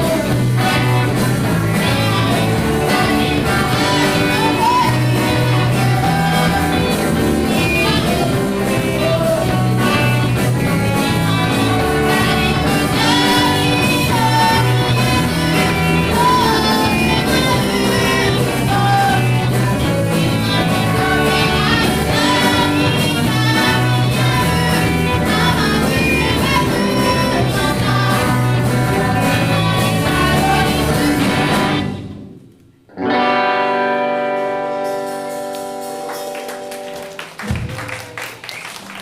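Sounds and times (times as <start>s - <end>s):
person singing: 0.0s - 31.9s
live band playing: 0.0s - 39.0s.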